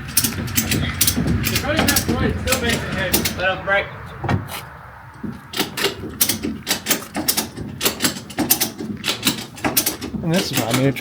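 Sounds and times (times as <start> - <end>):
sharp clicks and knocks: 0.0 - 3.4, 4.2 - 11.0.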